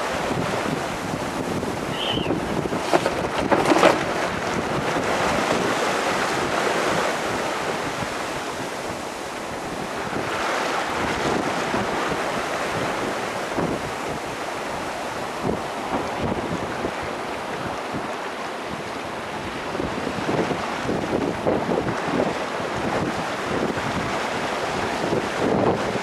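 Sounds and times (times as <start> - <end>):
waves and rushing water: 0.0 - 26.0
wind buffeting the microphone: 0.0 - 26.0.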